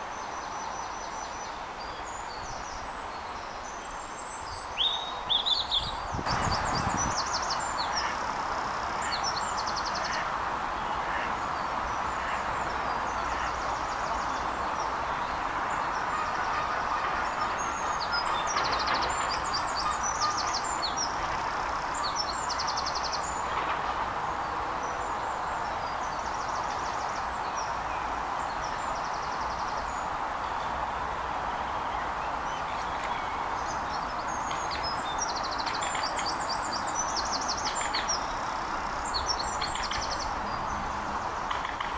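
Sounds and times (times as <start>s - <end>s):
outdoor background hiss: 0.0s - 41.9s
songbirds singing: 0.0s - 41.9s.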